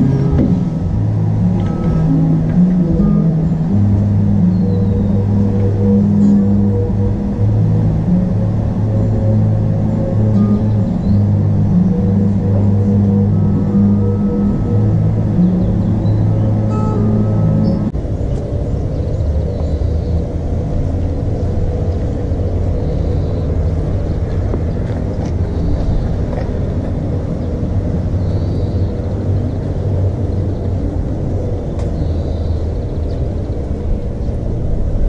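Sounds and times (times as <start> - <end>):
music: 0.0 - 18.0, 18.6 - 35.0
vehicle rumble: 0.0 - 35.0.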